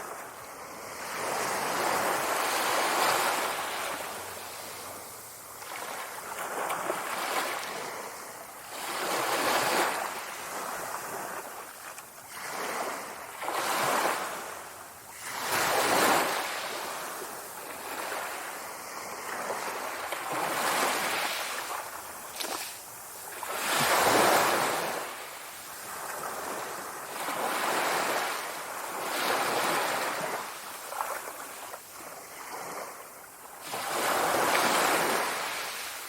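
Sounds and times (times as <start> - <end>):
sea waves washing in: 0.0 - 36.0.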